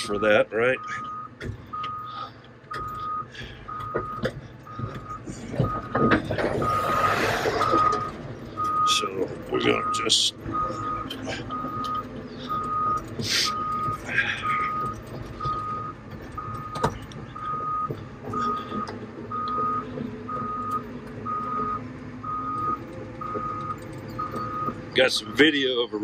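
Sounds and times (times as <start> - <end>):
diesel engine running: 0.0 - 26.0
excavator alarm beeping: 0.0 - 26.0.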